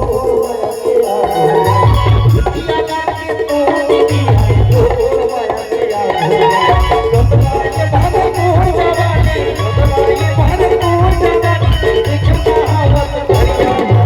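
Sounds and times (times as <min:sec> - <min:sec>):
heavy drum beat: 0:00.0 - 0:14.0.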